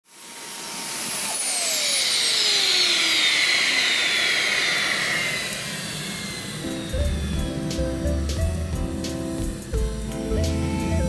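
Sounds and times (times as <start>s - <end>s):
jet engine whine falling in pitch: 0.1s - 11.0s.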